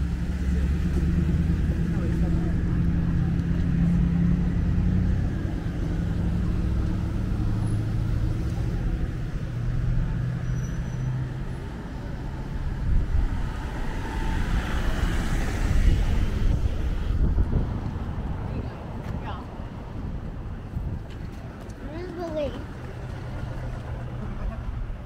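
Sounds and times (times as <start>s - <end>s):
tyre and road noise: 0.0s - 25.0s
vehicle engine humming: 0.0s - 25.0s.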